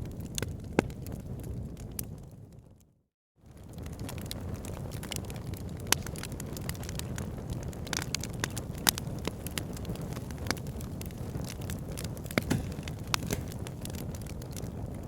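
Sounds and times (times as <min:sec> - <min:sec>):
logs burning in fireplace: 0:00.0 - 0:02.8, 0:03.4 - 0:15.0.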